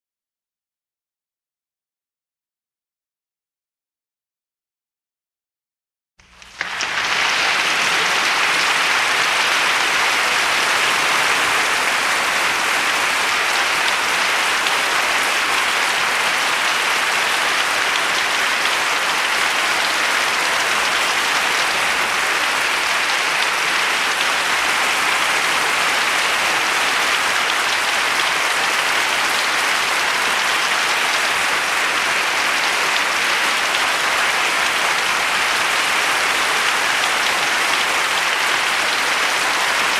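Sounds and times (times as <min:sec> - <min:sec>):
crowd clapping: 0:06.2 - 0:39.9.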